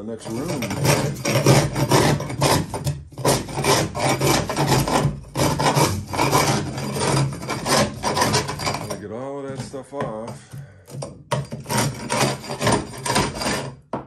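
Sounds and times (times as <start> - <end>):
scraper scraping boat bottom: 0.0 - 13.9.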